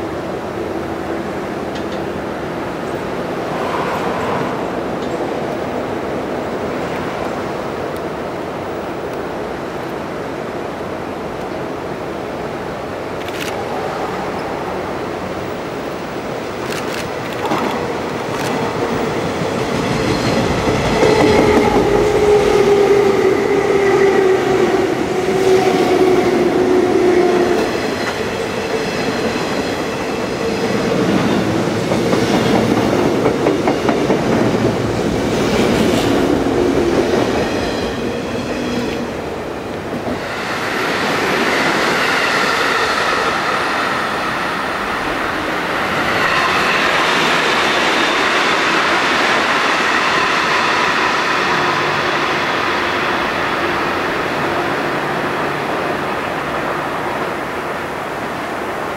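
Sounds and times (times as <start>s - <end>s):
electric train whine: 0.0s - 58.9s.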